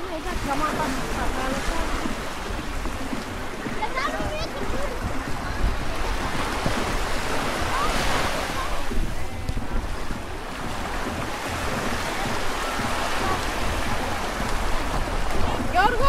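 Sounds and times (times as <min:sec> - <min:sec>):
faint distant voices: 0:00.0 - 0:16.0
small waves lapping on shore: 0:00.0 - 0:16.0
wind rumbling on microphone: 0:00.0 - 0:16.0.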